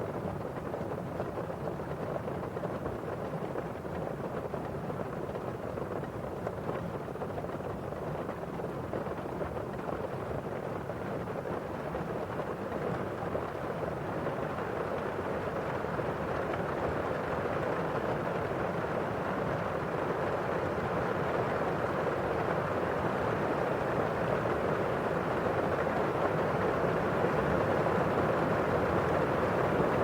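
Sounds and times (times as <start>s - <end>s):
rain on a window pane: 0.0s - 30.0s.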